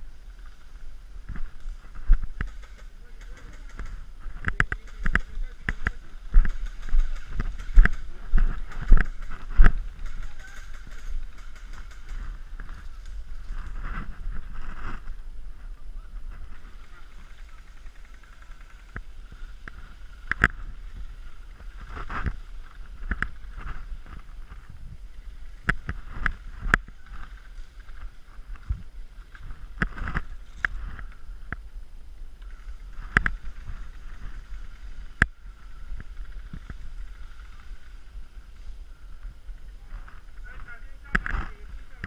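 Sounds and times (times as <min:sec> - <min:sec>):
rustling of movement: 0:00.0 - 0:42.0
wind on microphone: 0:00.0 - 0:42.0.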